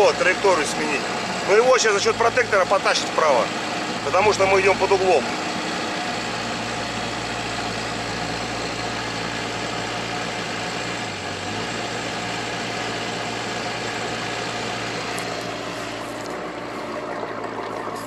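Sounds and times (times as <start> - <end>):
vehicle engine running under load: 0.0 - 18.0.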